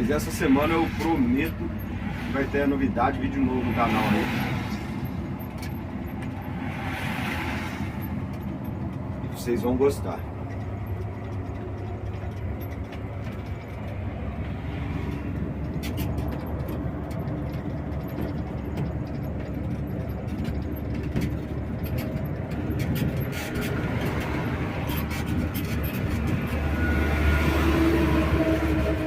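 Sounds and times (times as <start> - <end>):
bus engine humming: 0.0 - 29.0
interior clicks and rattles: 0.0 - 29.0.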